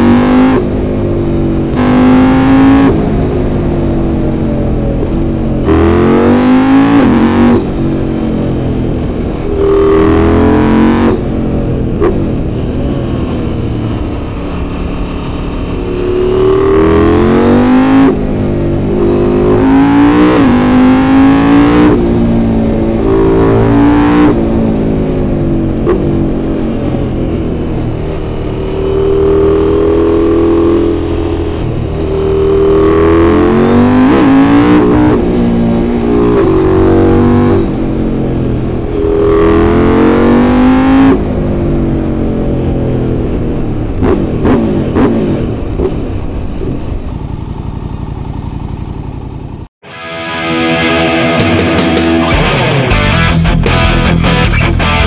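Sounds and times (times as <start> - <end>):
motorcycle engine revving: 0.0 - 49.8, 50.5 - 55.0.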